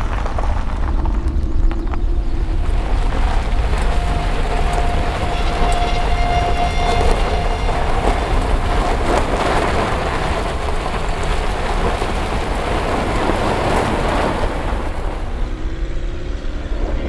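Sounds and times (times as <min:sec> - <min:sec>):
steady low rumble: 0:00.0 - 0:17.0
tyres rolling on gravel: 0:00.0 - 0:17.0
wind buffeting microphone: 0:00.0 - 0:17.0.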